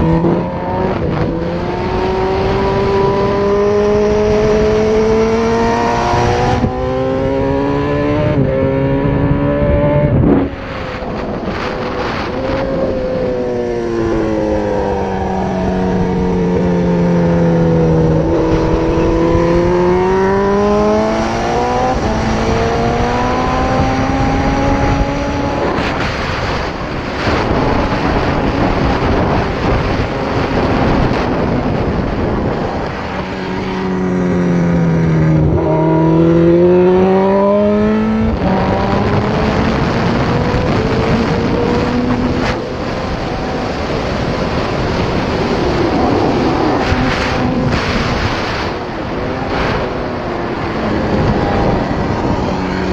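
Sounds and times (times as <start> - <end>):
motorcycle engine revving: 0.0 - 52.9
wind rush: 0.0 - 52.9.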